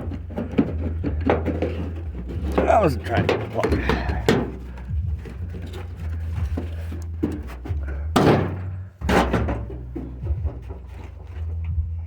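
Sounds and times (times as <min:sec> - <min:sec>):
heavy thunks: 0:00.0 - 0:12.0
steady low hum: 0:00.0 - 0:12.0.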